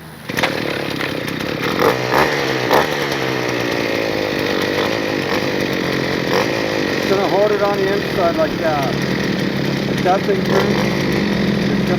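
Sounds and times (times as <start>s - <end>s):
earth auger engine revving: 0.0s - 11.9s.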